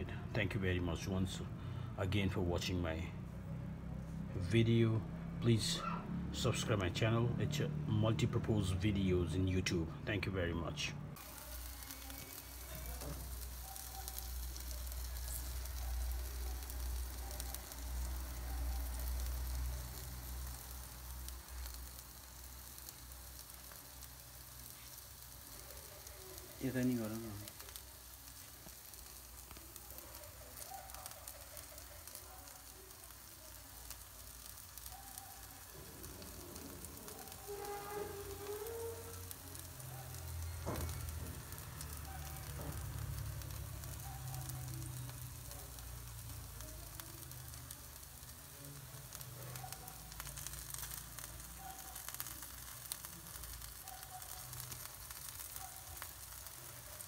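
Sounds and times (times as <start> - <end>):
chicken sizzling on electric grill: 0.0 - 57.0.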